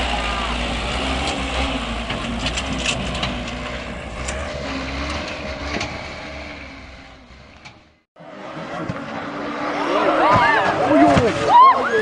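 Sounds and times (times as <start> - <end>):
truck engine straining: 0.0 - 12.0.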